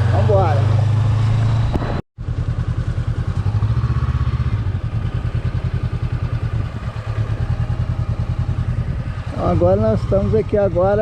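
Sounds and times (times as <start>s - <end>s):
road noise: 0.0s - 11.0s
vehicle engine rumbling: 0.0s - 11.0s.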